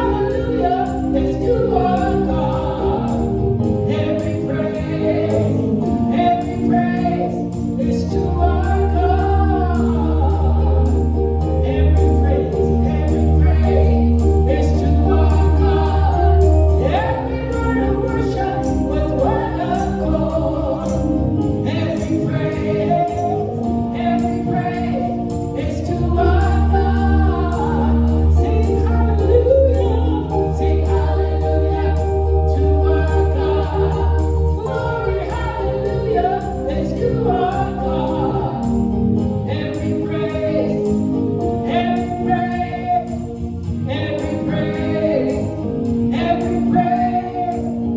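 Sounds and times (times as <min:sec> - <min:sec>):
choir singing gospel: 0:00.0 - 0:47.9.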